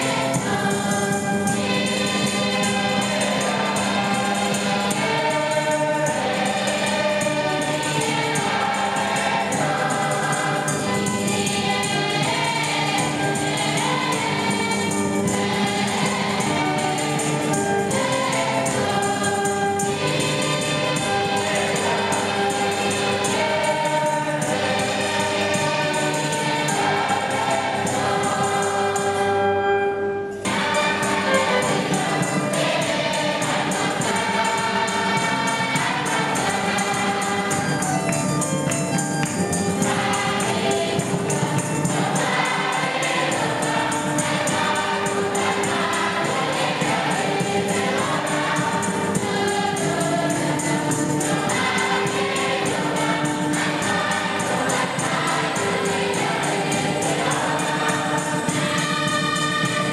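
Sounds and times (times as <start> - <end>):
percussion beat: 0.0 - 29.3, 30.4 - 59.9
choir singing gospel: 0.0 - 59.9.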